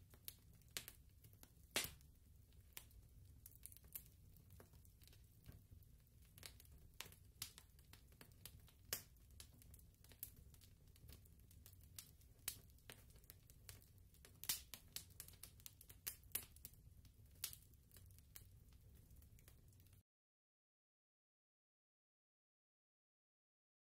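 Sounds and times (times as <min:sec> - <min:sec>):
faint crackle of clicks and pops: 0:00.0 - 0:20.0.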